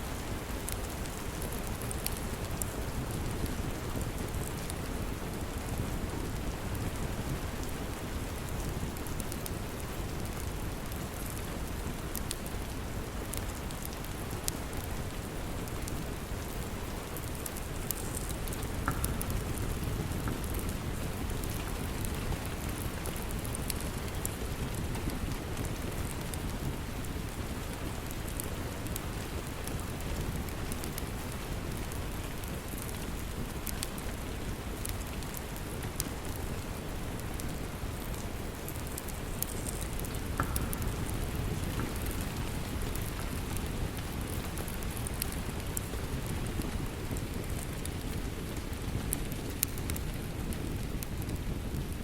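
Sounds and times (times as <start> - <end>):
steady rain: 0.0 - 52.0
wood fire crackling: 0.1 - 52.0.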